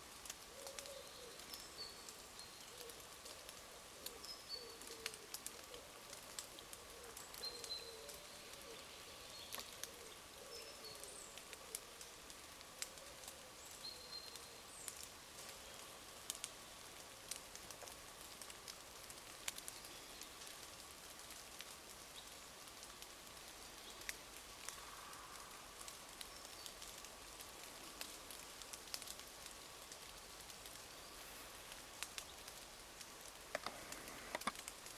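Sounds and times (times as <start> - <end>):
faint rain patter: 0.0 - 34.9
raindrops ticking on leaves: 0.0 - 34.9.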